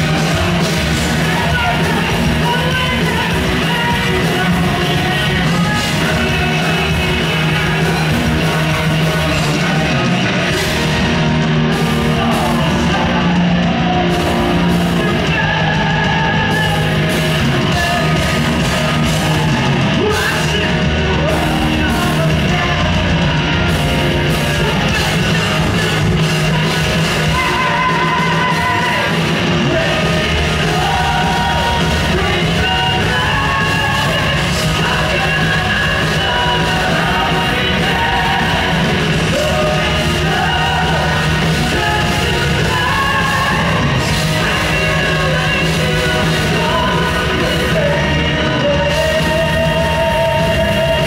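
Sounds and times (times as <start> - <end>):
distorted guitars: 0.0 - 51.0
drums: 0.0 - 51.0
live symphonic metal band: 0.0 - 51.0
man singing: 0.0 - 51.0.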